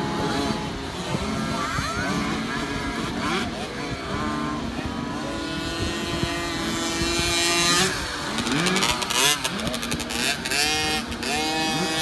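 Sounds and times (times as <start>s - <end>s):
two-stroke motocross bikes revving: 0.0s - 12.0s.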